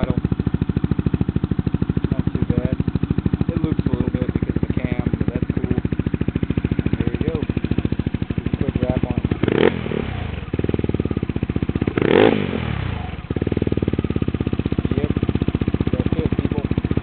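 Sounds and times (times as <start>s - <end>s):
scooter engine idling and revving: 0.0s - 17.0s.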